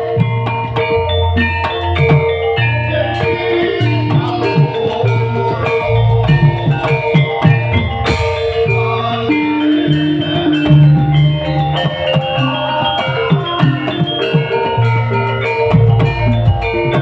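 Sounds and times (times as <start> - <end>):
bass line: 0.0 - 17.0
drums beating: 0.0 - 17.0
melody notes: 0.0 - 17.0.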